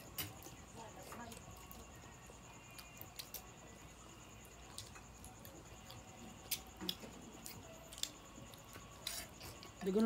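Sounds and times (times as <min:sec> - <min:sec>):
faint clicks and taps eating: 0:00.0 - 0:10.0.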